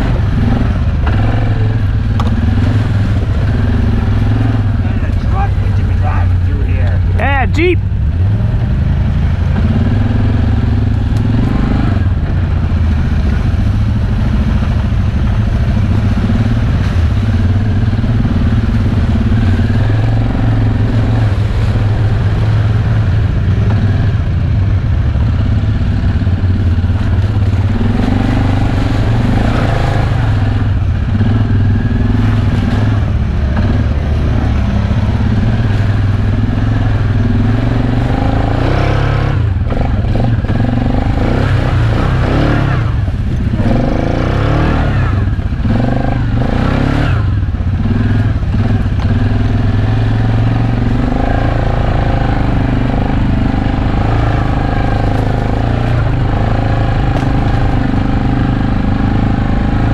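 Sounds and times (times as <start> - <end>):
atv engine running under load: 0.0 - 59.9.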